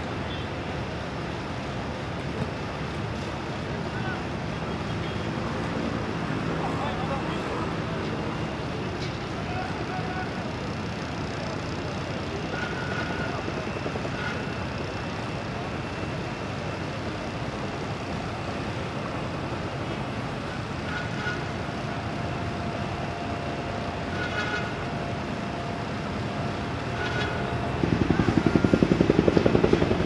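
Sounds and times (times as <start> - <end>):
heavy vehicle engines running: 0.0 - 30.0
pulsing loud engine: 0.0 - 30.0.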